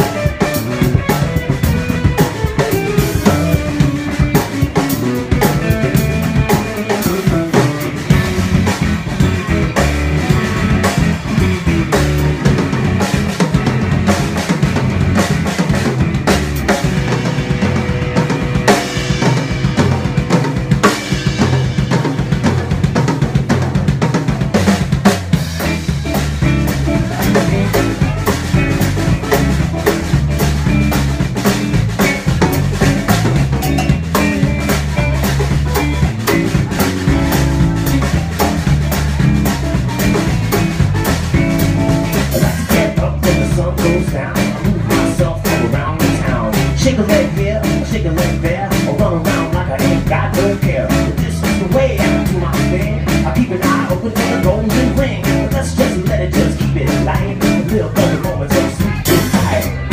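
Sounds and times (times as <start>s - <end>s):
bass line: 0.0s - 59.9s
drum kit pounding a beat: 0.0s - 59.9s
electric guitars: 0.0s - 59.9s.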